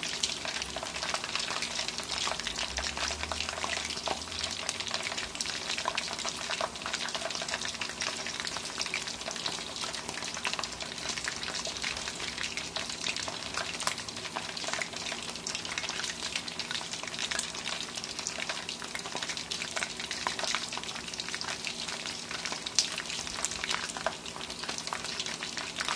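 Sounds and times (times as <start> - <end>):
oil sizzling and popping: 0.0 - 25.9.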